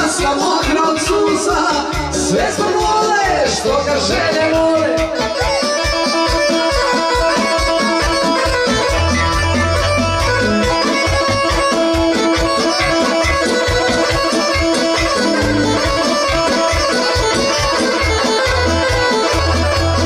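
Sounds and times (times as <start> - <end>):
band playing folk dance tune: 0.0 - 20.0.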